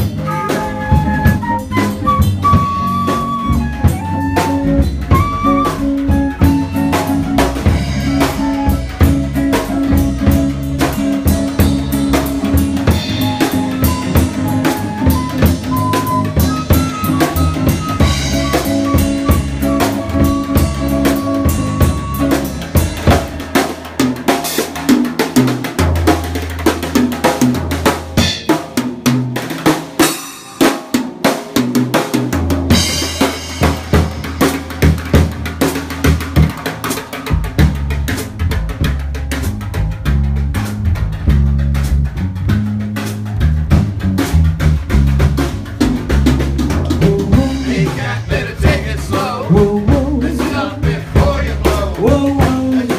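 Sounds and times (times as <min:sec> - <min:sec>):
drum solo: 0:00.0 - 0:52.9
swing band playing: 0:00.0 - 0:52.9.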